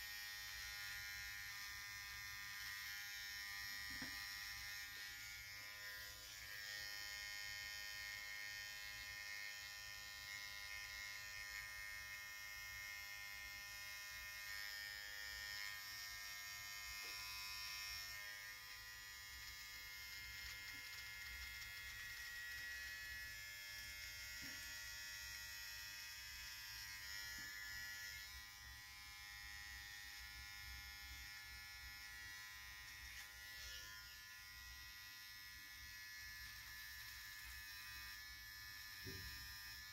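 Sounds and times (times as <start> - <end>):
electric hair trimmer buzzing: 0.0 - 39.9.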